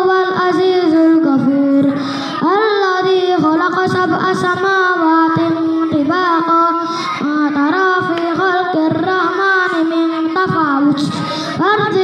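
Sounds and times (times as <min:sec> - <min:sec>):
boy chanting melodically: 0:00.0 - 0:12.0.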